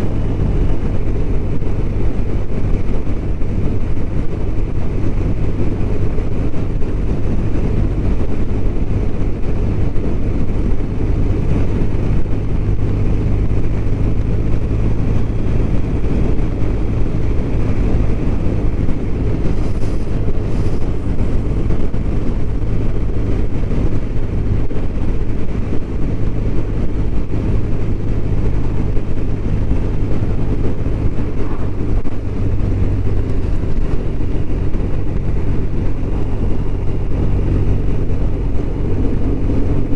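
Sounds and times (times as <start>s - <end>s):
motorcycle engine droning: 0.0s - 39.9s
wind and road noise: 0.0s - 39.9s.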